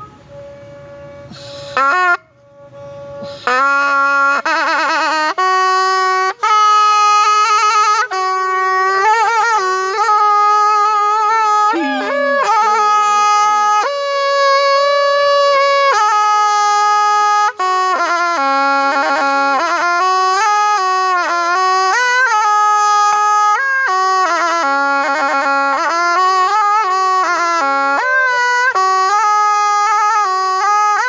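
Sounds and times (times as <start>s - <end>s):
reed oboe melody: 0.0s - 31.0s.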